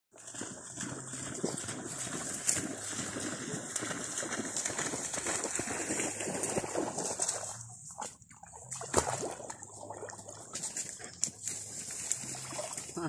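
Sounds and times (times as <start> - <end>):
water sloshing as person wades: 0.2 - 13.0.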